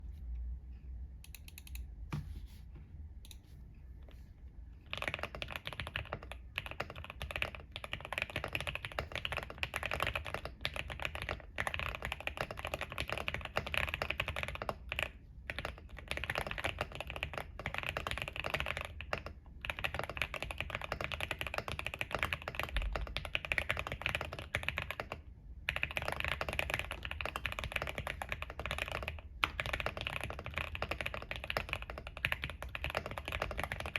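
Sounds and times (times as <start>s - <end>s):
mechanical keyboard typing: 4.9s - 33.9s.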